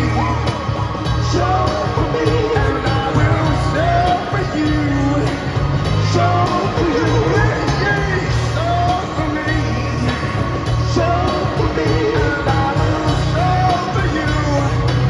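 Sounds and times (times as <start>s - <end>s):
drum hits: 0.0s - 15.0s
heavy pulsing bass: 0.0s - 15.0s
live rock band: 0.0s - 15.0s
person singing: 0.0s - 15.0s.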